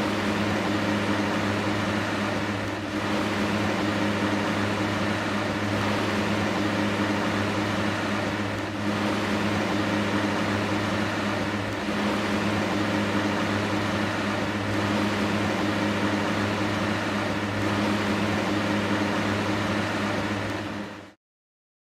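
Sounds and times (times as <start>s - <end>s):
electric fan running: 0.0s - 21.2s.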